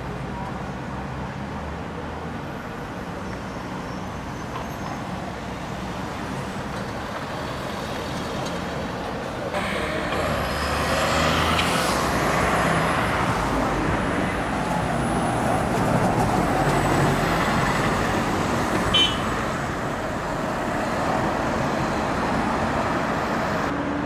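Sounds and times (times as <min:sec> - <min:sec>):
bus approaching: 0:00.0 - 0:24.0
buses running: 0:00.0 - 0:24.0
roadside traffic: 0:00.0 - 0:24.0.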